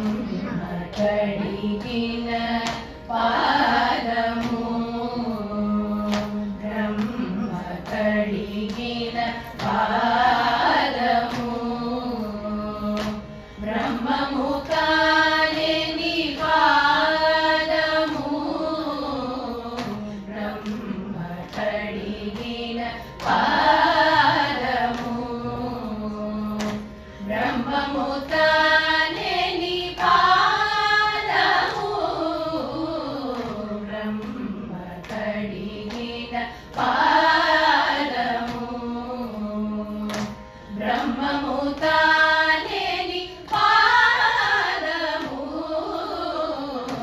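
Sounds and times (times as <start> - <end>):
women singing in unison: 0.0 - 47.0.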